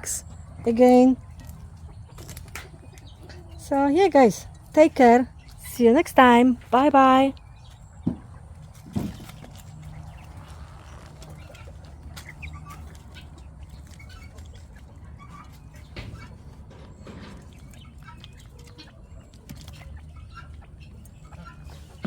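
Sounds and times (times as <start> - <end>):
quails calling and clucking: 0.0 - 22.0.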